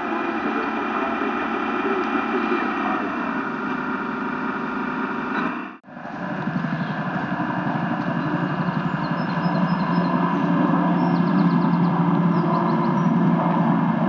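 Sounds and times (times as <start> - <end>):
model boat engine running: 0.0 - 14.0.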